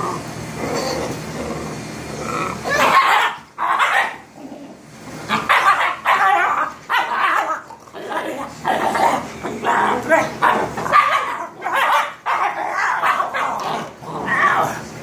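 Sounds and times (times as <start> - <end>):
puppies barking: 0.0 - 14.9
puppies growling: 0.0 - 15.0.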